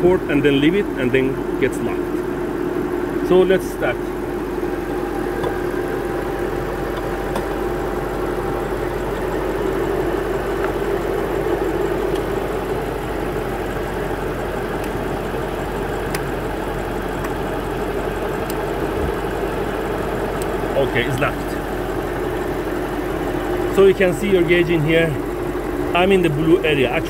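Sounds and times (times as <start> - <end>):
air conditioning running: 0.0 - 27.0
car engine idling: 0.0 - 27.0.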